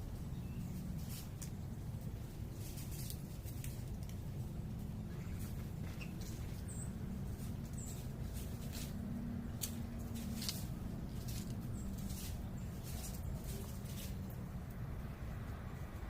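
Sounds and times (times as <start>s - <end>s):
low urban rumble: 0.0s - 16.0s
small birds chirping: 0.0s - 16.0s.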